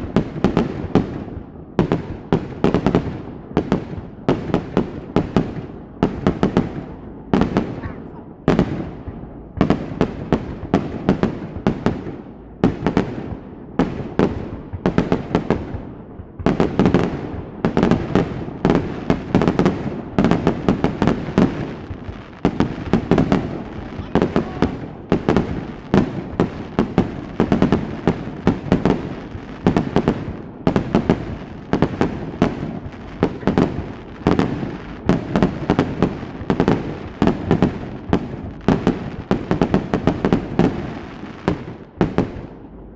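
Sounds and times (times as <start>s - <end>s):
fireworks bursting: 0.0s - 42.9s.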